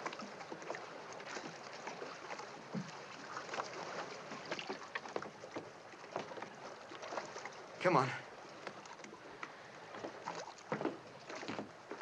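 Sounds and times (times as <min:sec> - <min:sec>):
water sloshing around boat: 0:00.0 - 0:12.0.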